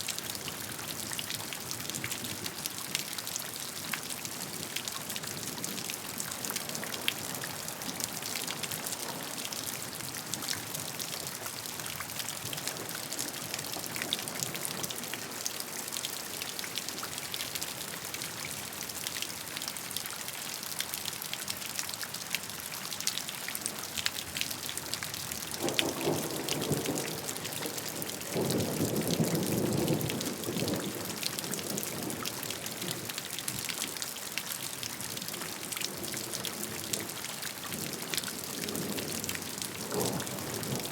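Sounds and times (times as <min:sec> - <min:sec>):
raindrops hitting a surface: 0:00.0 - 0:40.9
steady rain: 0:00.0 - 0:40.9.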